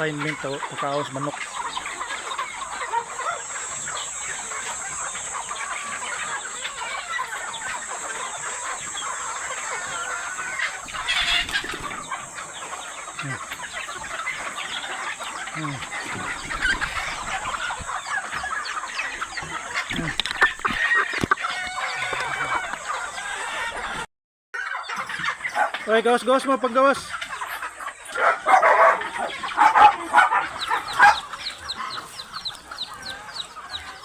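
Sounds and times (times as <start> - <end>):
chicken squawk: 0.0 - 34.0
chickens clucking: 0.0 - 34.0.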